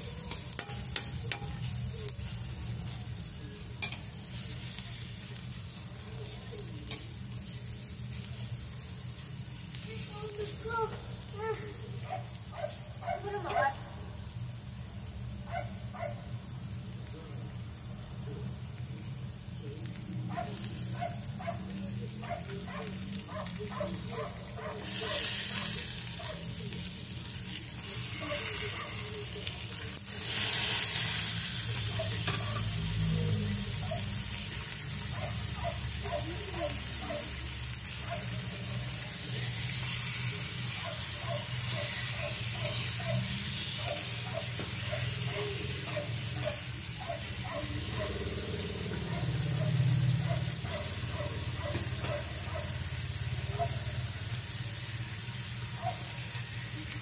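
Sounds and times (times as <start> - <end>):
shrimp sizzling in a pan: 0.0 - 57.0.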